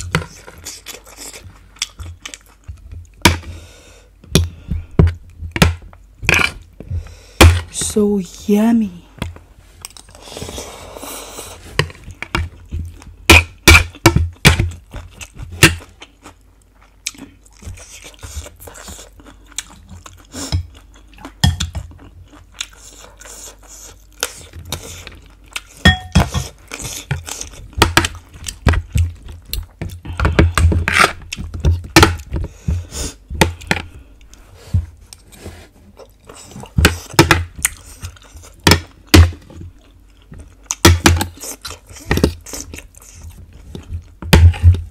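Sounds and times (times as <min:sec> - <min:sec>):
person chewing food: 0:00.0 - 0:07.7, 0:09.2 - 0:44.9.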